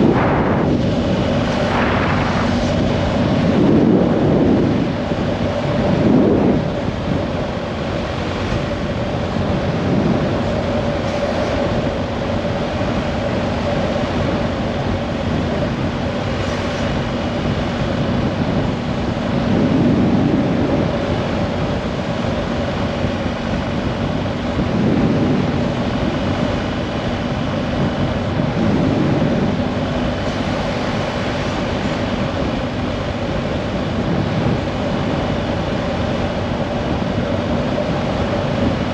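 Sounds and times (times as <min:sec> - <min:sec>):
engine drone: 0:00.0 - 0:38.9
rushing noise: 0:00.0 - 0:38.9.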